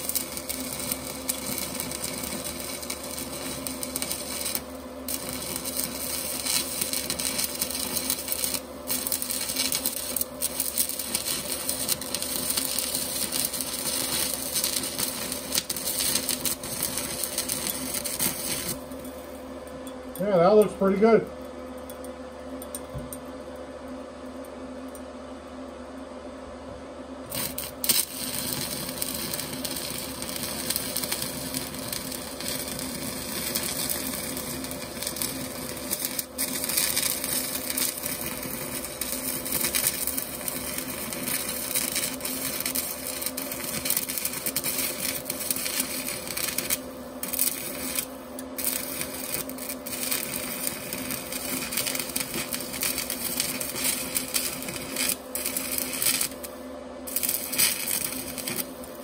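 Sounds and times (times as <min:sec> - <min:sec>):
welding arc crackling sizzle: 0:00.0 - 0:21.3, 0:27.2 - 0:59.0.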